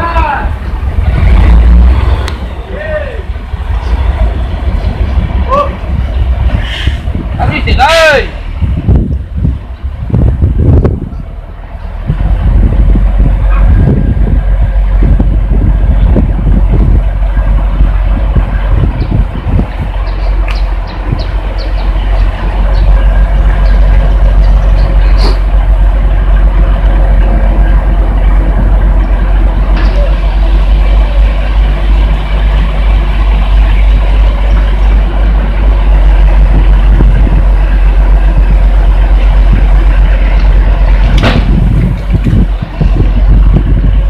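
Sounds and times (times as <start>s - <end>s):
heavy truck diesel engine running: 0.0s - 44.0s.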